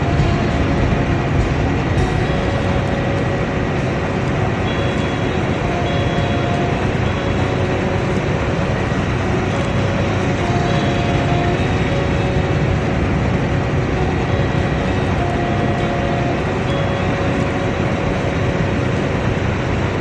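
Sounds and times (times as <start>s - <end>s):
combine harvester running: 0.0s - 20.0s
faint machinery whine: 0.0s - 20.0s.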